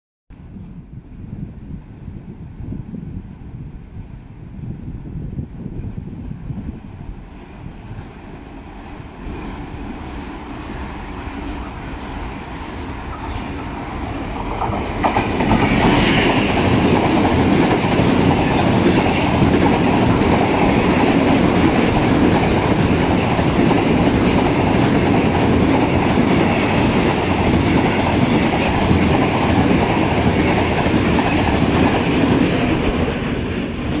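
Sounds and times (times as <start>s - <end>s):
diesel locomotive engine: 0.6s - 34.0s.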